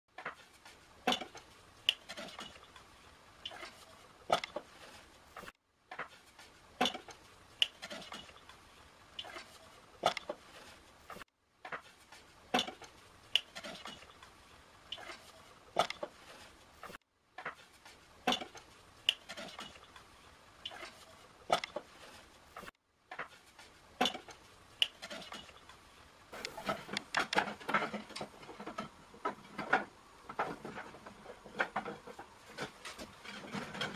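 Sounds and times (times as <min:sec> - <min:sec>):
wooden staves clattering and knocking: 0:00.1 - 0:33.9.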